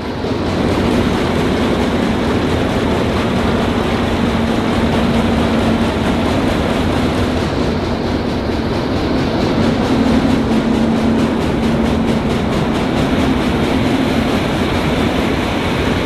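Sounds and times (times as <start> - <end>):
combine harvester rattling: 0.0 - 16.0.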